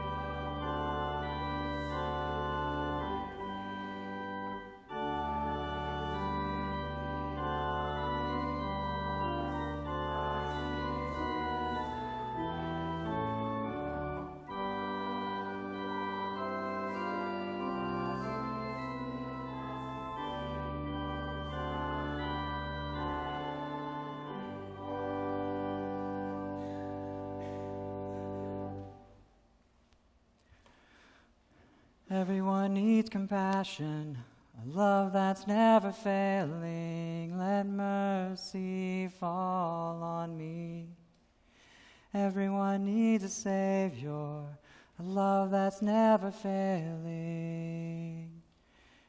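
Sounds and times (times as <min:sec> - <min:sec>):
church organ playing a hymn: 0:00.0 - 0:29.3, 0:32.1 - 0:49.0.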